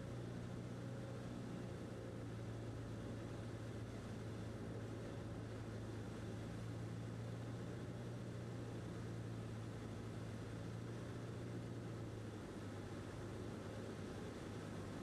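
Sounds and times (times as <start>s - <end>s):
airplane engine and propeller droning: 0.0s - 15.0s.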